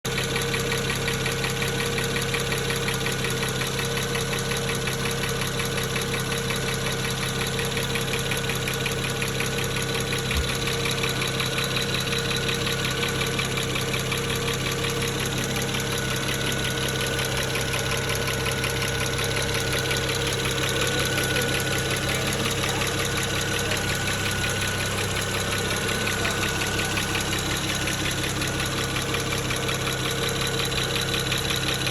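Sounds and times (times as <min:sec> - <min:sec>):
car engine idling rough: 0:00.1 - 0:31.9
rapid engine ticking: 0:00.1 - 0:31.9.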